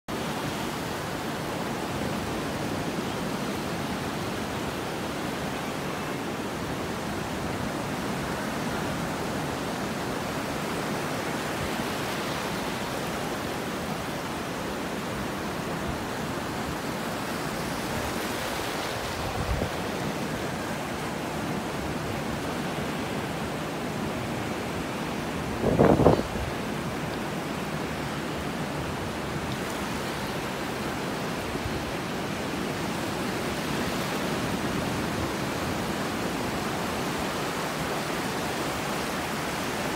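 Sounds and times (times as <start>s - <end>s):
ocean surf breaking: 0.2s - 39.9s.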